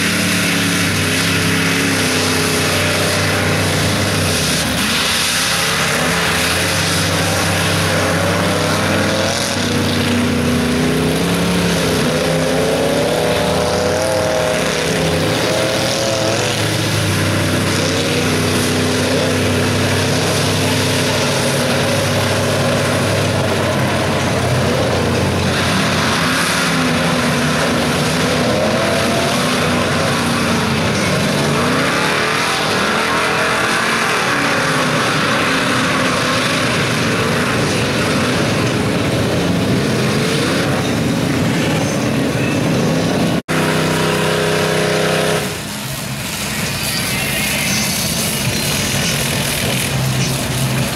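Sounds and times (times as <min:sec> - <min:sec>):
tires churning through mud: 0:00.0 - 0:50.9
truck engines revving: 0:00.0 - 0:50.9.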